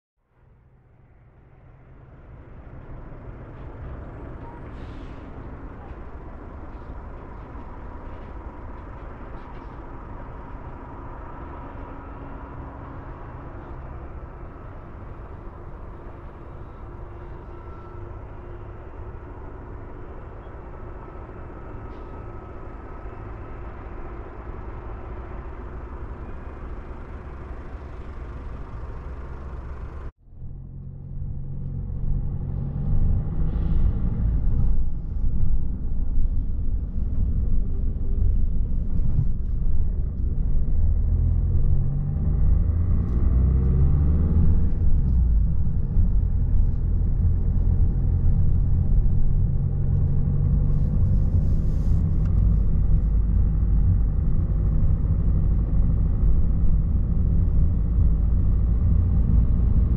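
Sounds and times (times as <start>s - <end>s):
distant road traffic: 0.2s - 59.9s.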